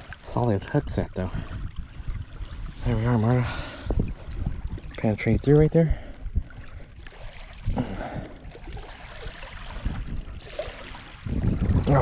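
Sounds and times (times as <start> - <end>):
small waves lapping on shore: 0.0 - 12.0
wind rumble on microphone: 0.0 - 12.0.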